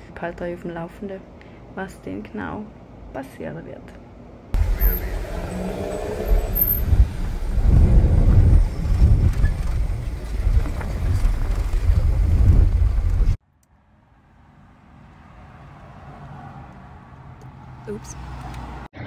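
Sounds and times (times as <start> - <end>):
traffic and wind rumble from car: 0.0 - 19.0.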